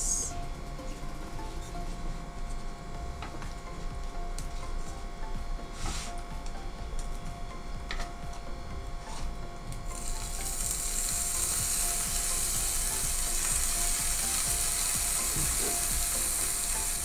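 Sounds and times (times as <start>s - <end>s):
high sizzle in hot pan: 0.0s - 1.6s, 2.4s - 17.0s.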